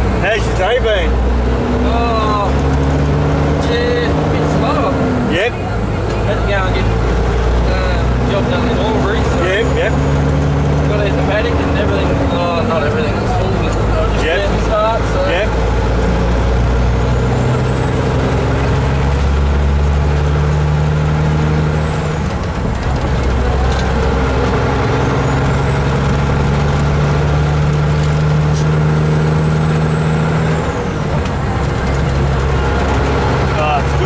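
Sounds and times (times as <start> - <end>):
diesel truck engine under load: 0.0 - 34.0.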